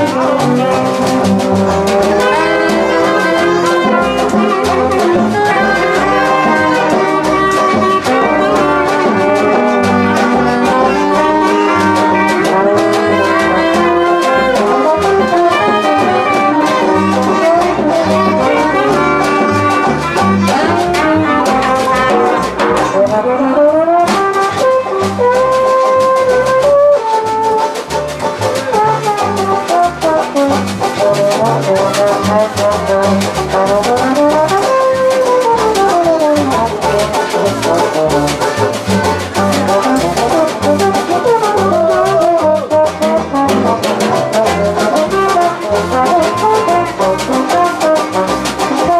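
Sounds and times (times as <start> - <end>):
brass band playing jazz: 0.0 - 48.9
trombone sliding: 0.0 - 48.9.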